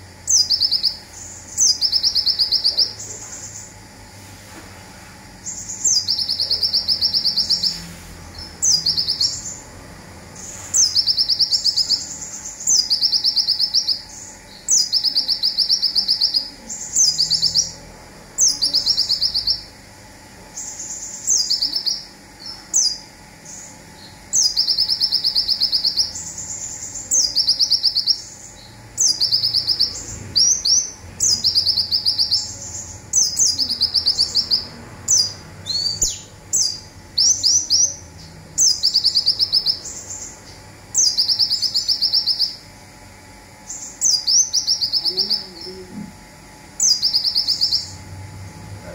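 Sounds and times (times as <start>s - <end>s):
bird song with buzzy trill: 0.0s - 4.1s, 5.3s - 48.9s.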